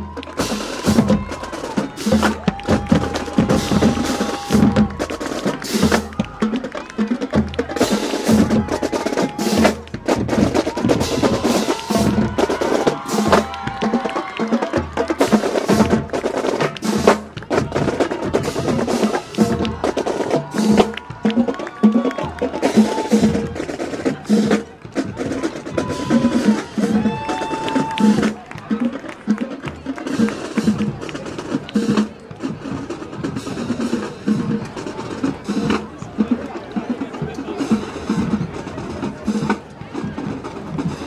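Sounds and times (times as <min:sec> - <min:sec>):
marching drumline cadence: 0:00.0 - 0:41.0.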